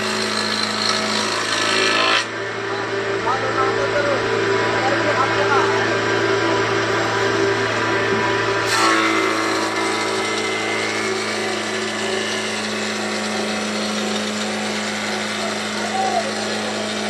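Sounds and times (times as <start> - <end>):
motor running: 0.0 - 17.0.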